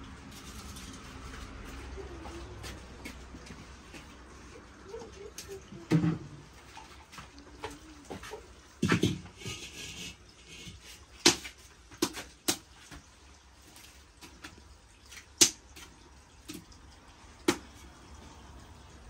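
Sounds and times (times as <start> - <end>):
faint steady background noise: 0.0 - 19.0.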